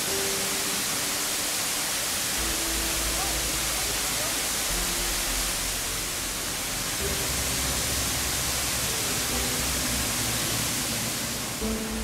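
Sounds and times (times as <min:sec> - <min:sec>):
rushing waterfall: 0:00.0 - 0:12.0.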